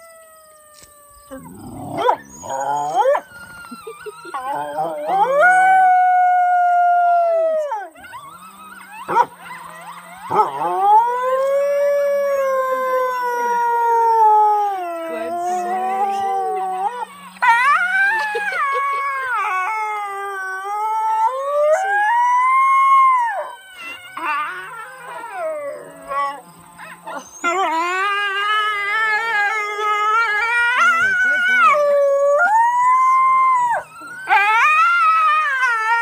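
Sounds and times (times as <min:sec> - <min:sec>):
coyote howling: 0:00.0 - 0:36.0.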